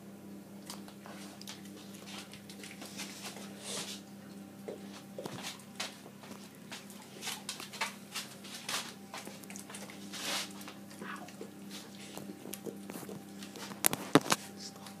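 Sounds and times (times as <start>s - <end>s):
dog licking wetly: 0.7s - 3.9s, 4.7s - 13.8s.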